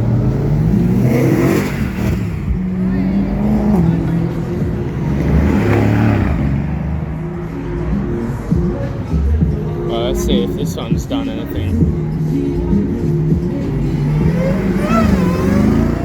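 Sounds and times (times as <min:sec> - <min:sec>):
car engine revving: 0:00.0 - 0:16.0
engine running: 0:00.0 - 0:16.0.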